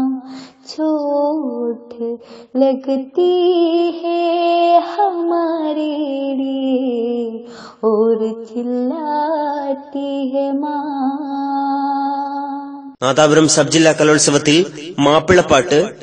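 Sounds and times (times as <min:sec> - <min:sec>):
woman singing slow song: 0:00.0 - 0:13.0.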